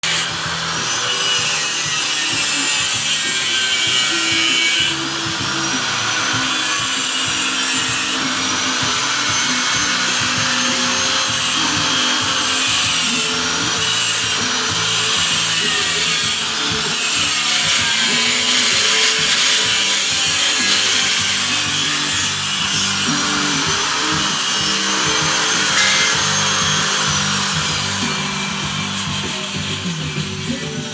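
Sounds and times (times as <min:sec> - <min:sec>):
background music: 0:00.0 - 0:30.9
power tool running: 0:00.0 - 0:30.9.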